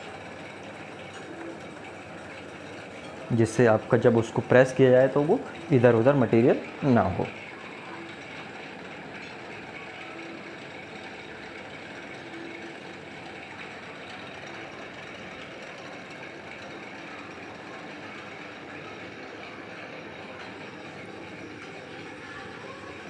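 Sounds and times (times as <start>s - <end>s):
forging press mechanical hum: 0.0s - 23.0s.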